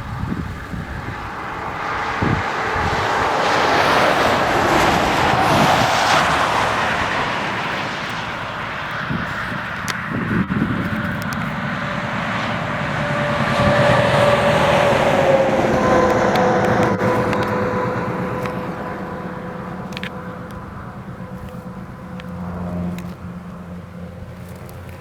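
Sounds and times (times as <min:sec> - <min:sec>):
highway tyre and engine rumble: 0:00.0 - 0:25.0.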